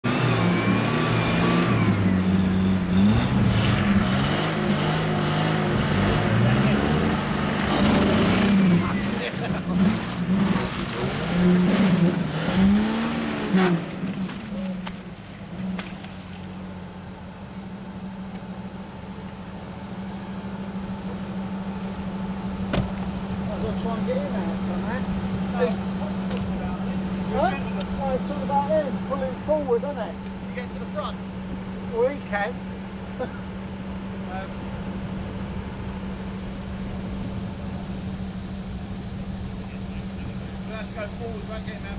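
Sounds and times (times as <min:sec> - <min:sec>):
car engine revving: 0:00.0 - 0:17.2, 0:19.8 - 0:41.9.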